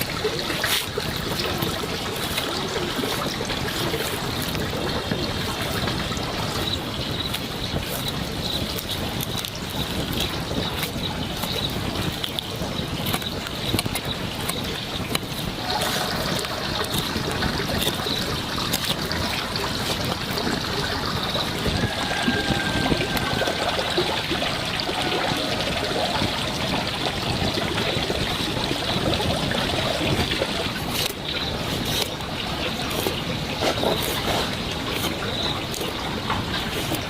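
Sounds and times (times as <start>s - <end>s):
water running and trickling: 0.0s - 37.0s.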